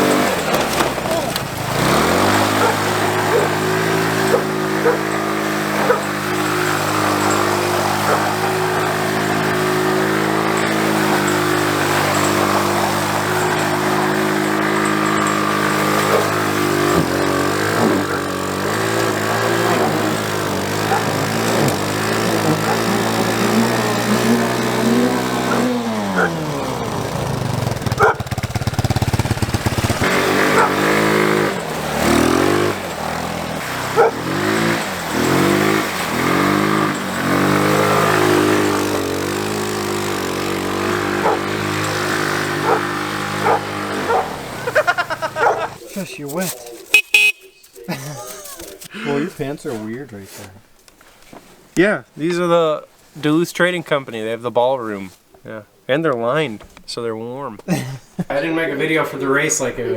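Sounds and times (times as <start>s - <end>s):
small engine idling and revving: 0.0s - 49.8s.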